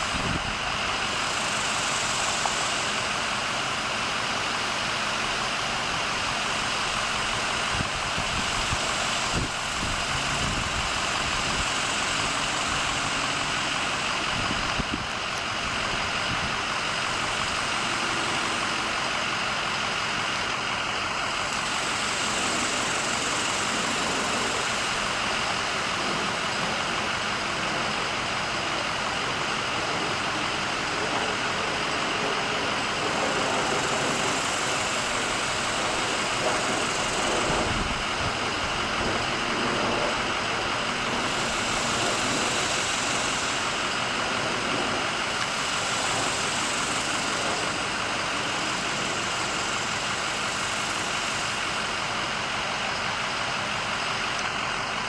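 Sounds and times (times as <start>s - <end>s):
loud steady rushing noise: 0.0s - 55.0s.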